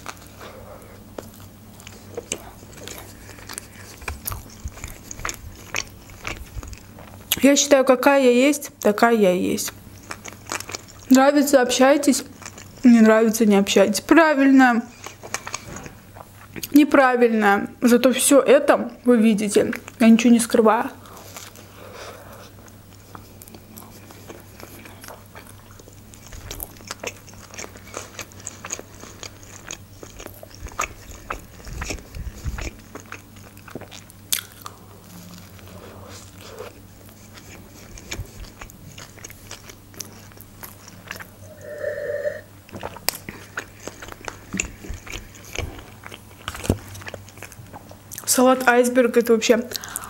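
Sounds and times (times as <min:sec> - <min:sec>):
wet chewing: 0:00.0 - 0:07.6, 0:08.8 - 0:14.1, 0:14.8 - 0:16.9, 0:20.9 - 0:48.7.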